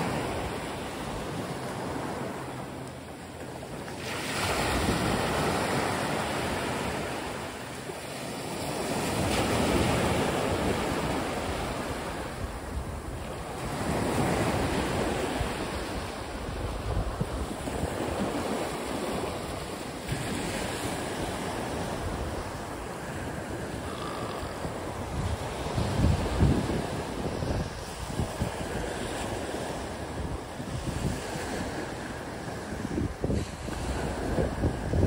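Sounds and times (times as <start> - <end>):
wind rushing over microphone: 0.0 - 35.0.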